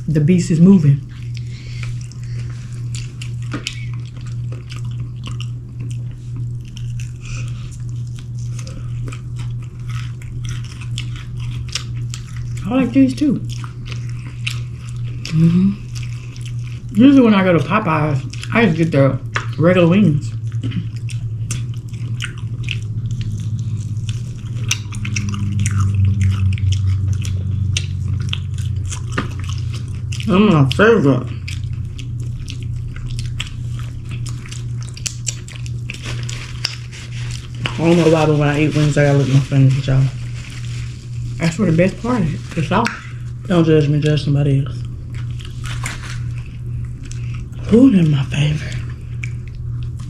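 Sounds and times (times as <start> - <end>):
steady low hum: 0.0 - 50.0
chewing with wet smacks: 0.6 - 50.0.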